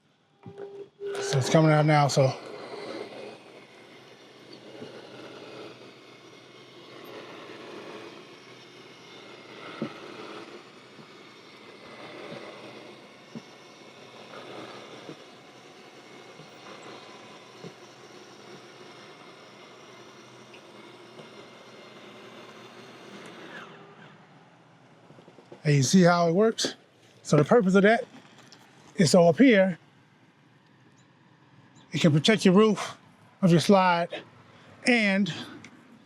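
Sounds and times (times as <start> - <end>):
mechanical motor drone: 0.0 - 36.0.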